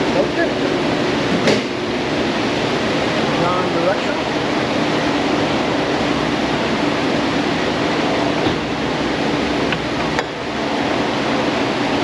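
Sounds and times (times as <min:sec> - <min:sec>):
rushing air noise: 0:00.0 - 0:12.0.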